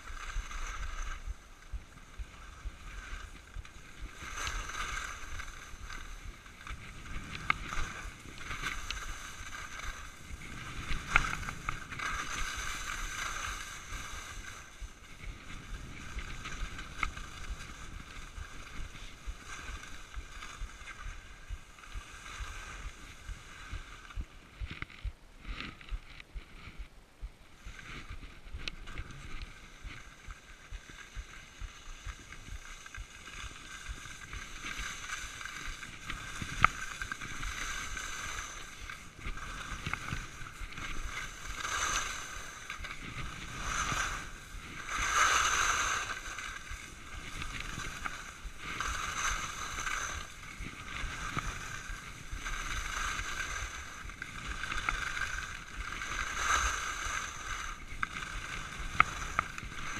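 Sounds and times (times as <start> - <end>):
skis hissing over snow: 0.0 - 59.9.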